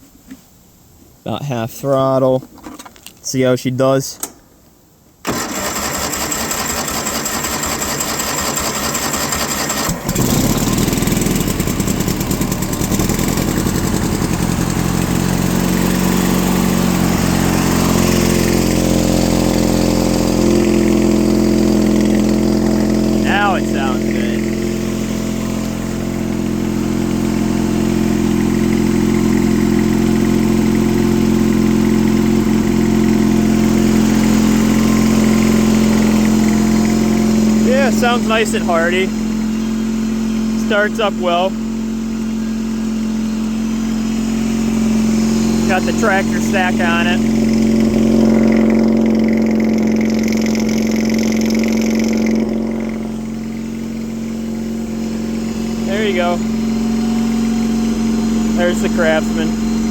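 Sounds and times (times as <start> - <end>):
garden tractor engine running: 5.2 - 59.9.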